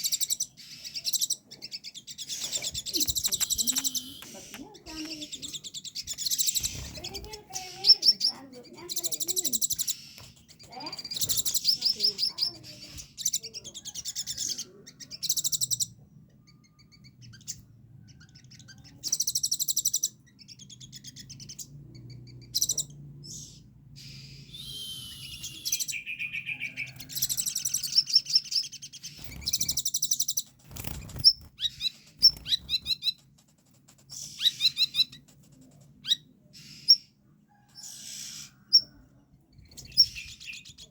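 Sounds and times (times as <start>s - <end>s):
songbird trilling and chirping: 0.0s - 40.9s.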